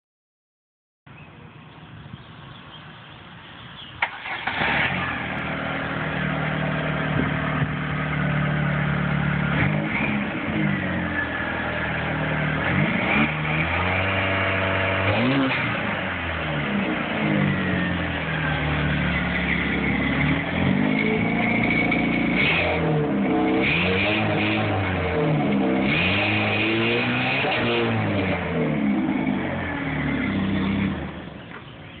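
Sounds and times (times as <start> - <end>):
pickup engine idling and revving: 3.5 - 32.0.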